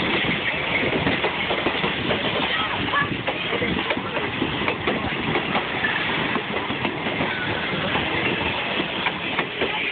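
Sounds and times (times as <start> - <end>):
train wheels clattering on rails: 0.0 - 9.9.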